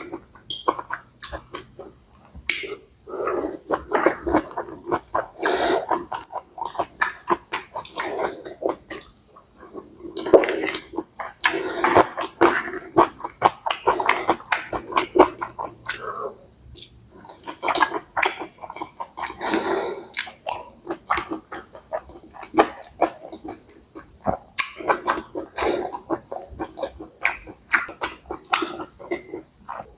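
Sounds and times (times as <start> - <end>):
person chewing and slurping noodles: 0.0 - 29.9.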